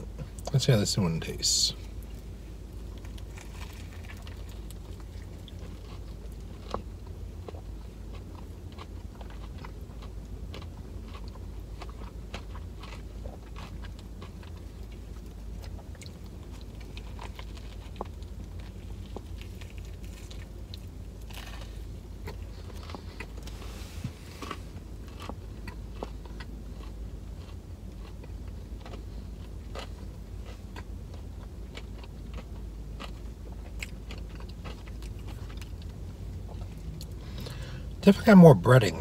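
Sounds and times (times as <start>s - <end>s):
steady low hum: 0.0s - 39.0s
crunchy chewing: 1.7s - 38.0s.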